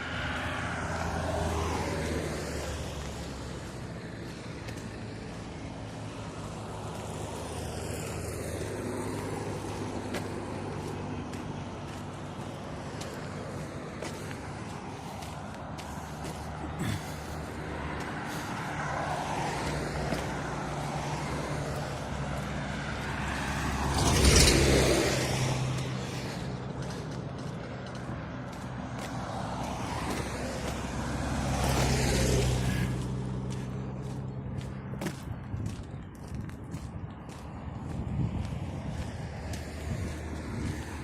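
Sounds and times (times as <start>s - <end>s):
engine running: 0.0s - 41.0s
vehicles passing close by: 0.0s - 41.0s.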